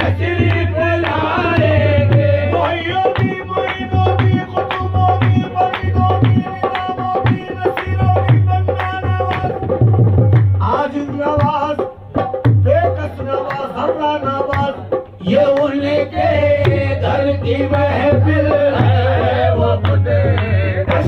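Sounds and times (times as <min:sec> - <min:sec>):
hand drum beat: 0:00.0 - 0:21.0
harmonium: 0:00.0 - 0:21.0
rhythmic handclaps: 0:00.0 - 0:21.0.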